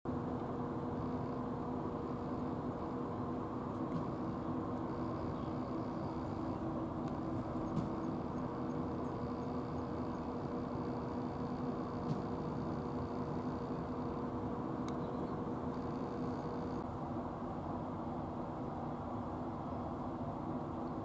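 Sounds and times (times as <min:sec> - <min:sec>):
low mechanical drone: 0:00.1 - 0:21.0.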